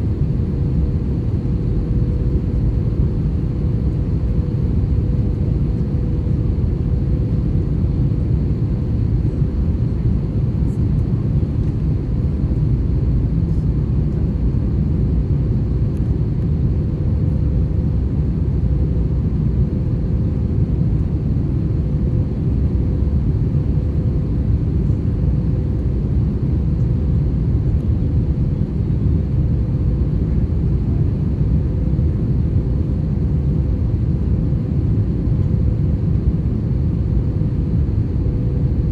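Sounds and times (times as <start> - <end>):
engine and airflow rumble in cabin: 0.0 - 38.9.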